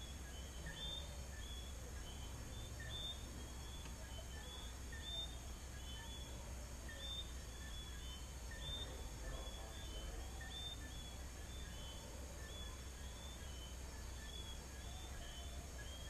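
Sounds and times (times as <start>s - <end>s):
crickets trilling: 0.0s - 16.0s
frogs whistling: 0.0s - 16.0s.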